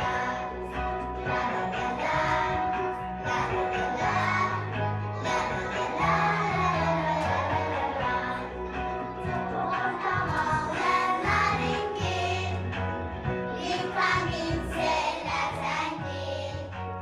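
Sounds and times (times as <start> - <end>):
children singing: 0.0 - 12.6, 13.6 - 16.7.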